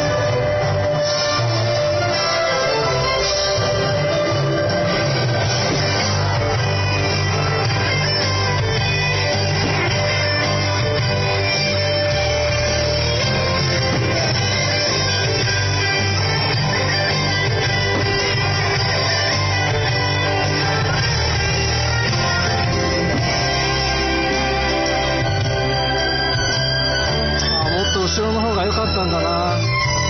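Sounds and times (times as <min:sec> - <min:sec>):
rock music with loud guitar: 0:00.0 - 0:30.0.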